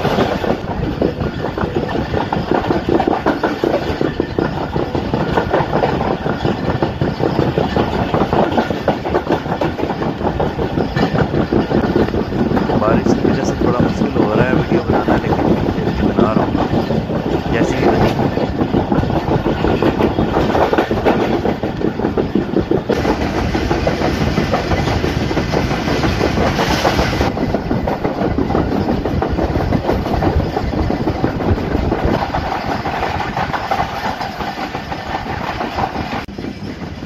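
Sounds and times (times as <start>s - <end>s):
train rolling rumble: 0.0s - 37.0s
train wheels clattering over rail joints: 0.0s - 37.0s.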